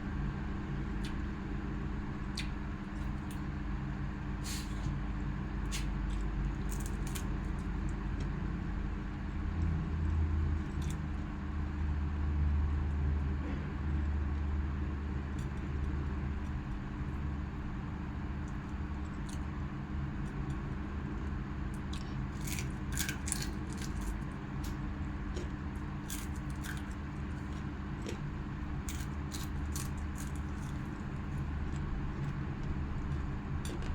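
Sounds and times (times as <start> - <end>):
low mechanical hum: 0.0 - 33.9.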